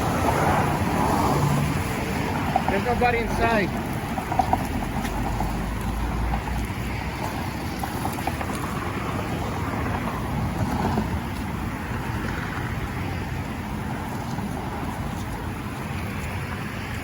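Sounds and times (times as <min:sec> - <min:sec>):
rushing noise with low rumble: 0:00.0 - 0:17.0
wind buffeting microphone: 0:00.0 - 0:17.0.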